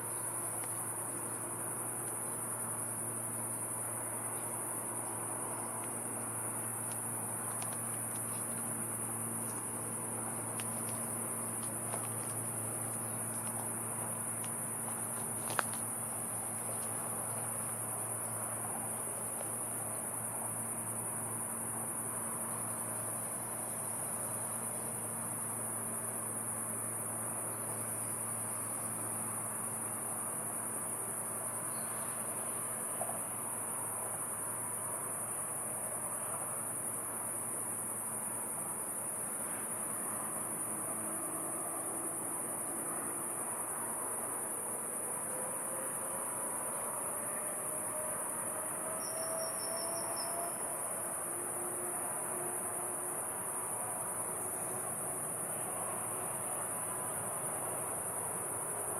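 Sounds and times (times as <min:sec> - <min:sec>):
crickets trilling: 0:00.0 - 0:58.9.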